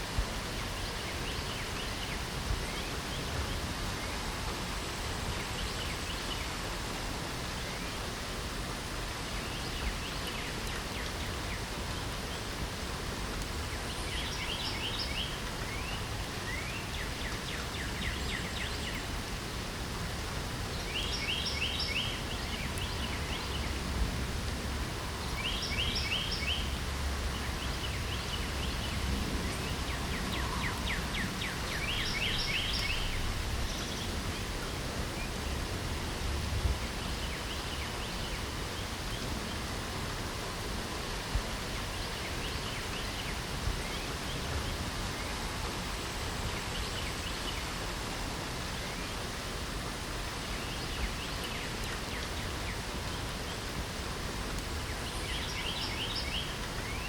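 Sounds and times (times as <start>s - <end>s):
songbirds singing: 0.0s - 19.5s, 20.1s - 57.0s
rain hiss: 0.0s - 57.0s.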